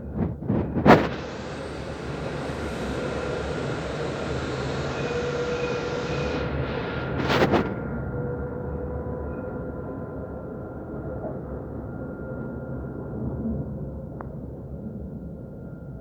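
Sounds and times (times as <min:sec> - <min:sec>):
tram rolling on track: 0:00.0 - 0:12.8
faint whine: 0:00.0 - 0:16.0.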